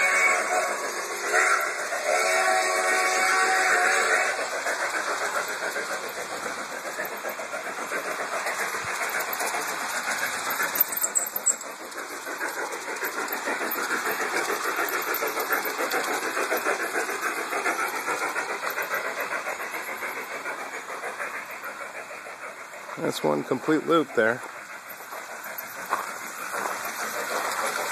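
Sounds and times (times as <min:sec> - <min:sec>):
model train rattling rush: 0:00.0 - 0:27.9.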